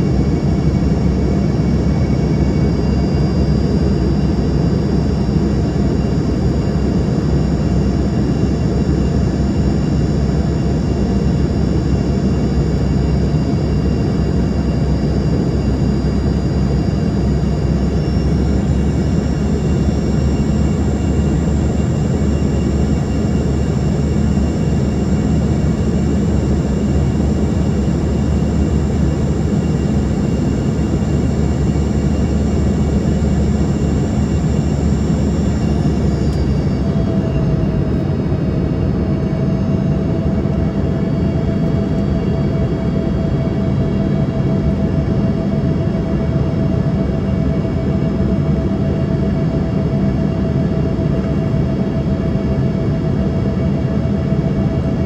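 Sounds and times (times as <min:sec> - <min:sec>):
high engine whine: 0:00.0 - 0:55.0.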